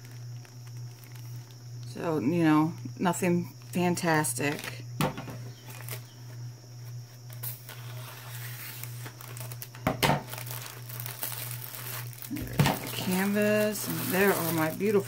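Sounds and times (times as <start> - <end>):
plastic packaging crinkling: 0.0 - 4.8, 5.4 - 15.0
steady low hum: 0.0 - 15.0.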